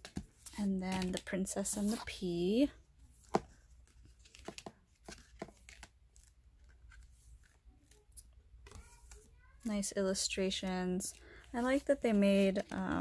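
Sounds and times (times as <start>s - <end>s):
cardboard book pages turning: 0.0s - 2.2s, 3.2s - 9.8s, 11.1s - 13.0s.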